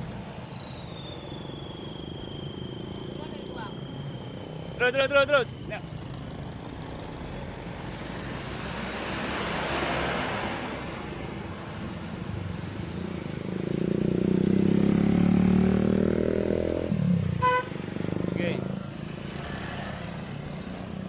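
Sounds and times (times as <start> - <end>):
vehicle passing: 2.8 - 21.0.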